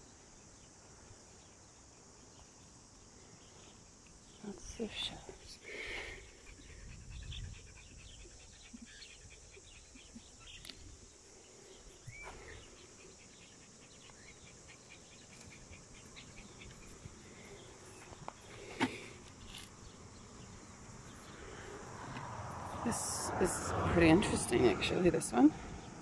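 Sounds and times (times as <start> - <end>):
high background hiss: 0.0 - 23.3.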